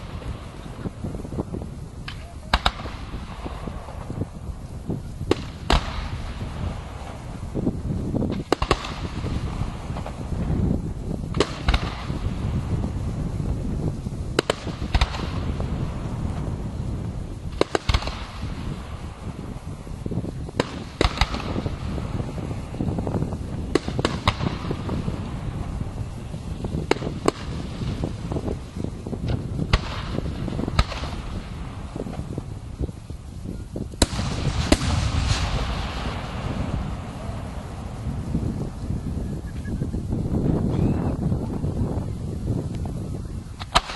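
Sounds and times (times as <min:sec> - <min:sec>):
fireworks bursting with sharp bangs: 0:00.0 - 0:43.9
steady low rumble: 0:00.0 - 0:43.9.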